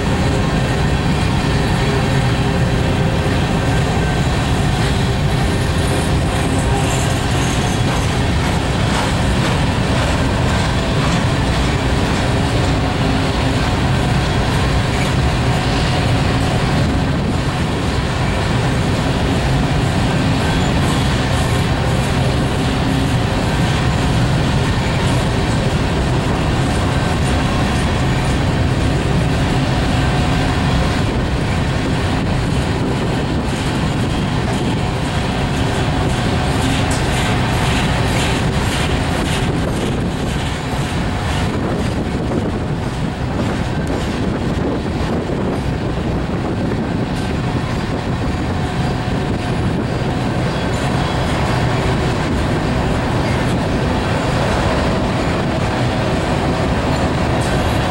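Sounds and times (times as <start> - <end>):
freight train wheels rumbling: 0.0 - 57.9
wheels clacking over rail joints: 0.0 - 57.9.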